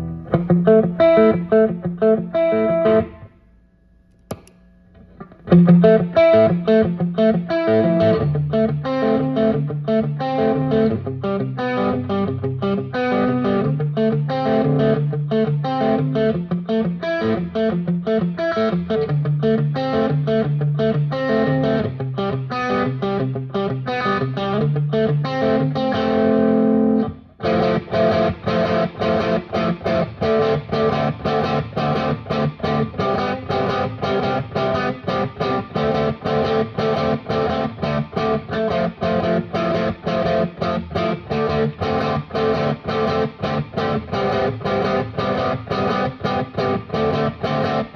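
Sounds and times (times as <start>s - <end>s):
electric guitar playing: 0.0s - 3.4s, 4.2s - 47.9s.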